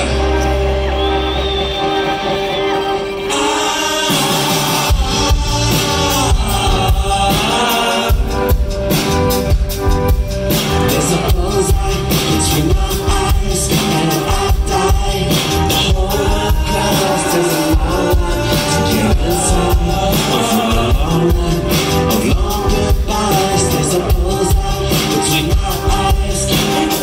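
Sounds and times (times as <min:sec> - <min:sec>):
person singing: 0:00.0 - 0:09.0, 0:10.5 - 0:27.0
live rock band: 0:00.0 - 0:27.0.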